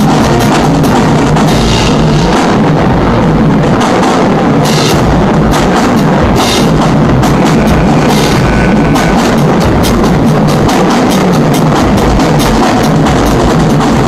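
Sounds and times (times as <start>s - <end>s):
sousaphones and horns: 0.0s - 3.8s, 4.4s - 14.0s
bass drums: 0.0s - 14.0s
snare drums: 0.0s - 14.0s.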